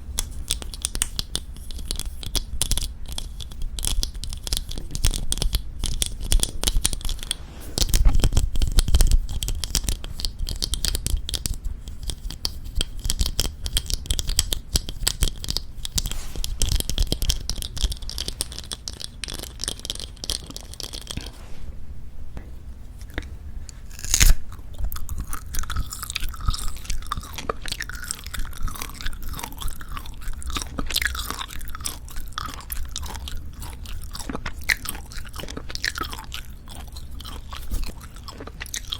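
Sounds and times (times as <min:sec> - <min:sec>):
close chewing sounds: 0:00.0 - 0:21.4, 0:23.0 - 0:38.9.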